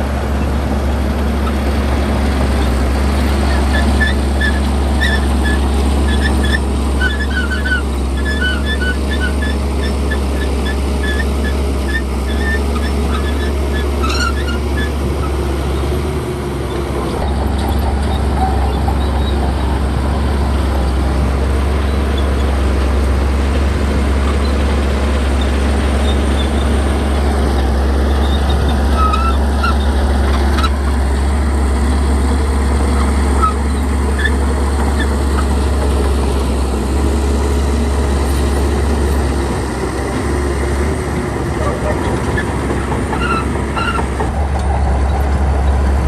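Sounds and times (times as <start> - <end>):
diesel machinery rumbling: 0.0 - 46.0.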